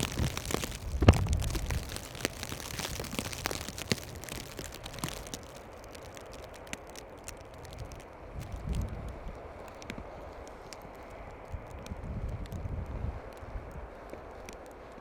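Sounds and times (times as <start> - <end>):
blizzard wind hiss and rumble: 0.0 - 15.0
crackles of wind-driven snow: 0.0 - 15.0.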